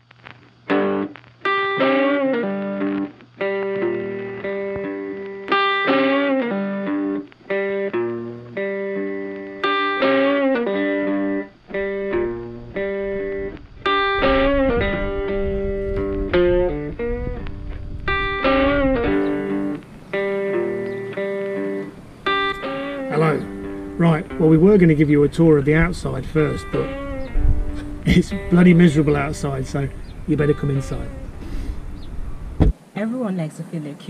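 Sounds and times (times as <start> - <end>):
guitar plucking melody: 0.6 - 32.7.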